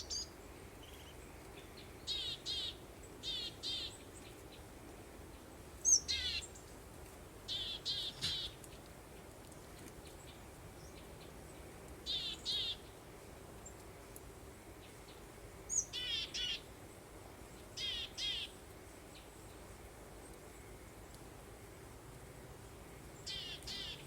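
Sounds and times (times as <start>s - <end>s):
soft steady hiss: 0.0s - 24.0s
songbirds chirping: 0.0s - 24.0s.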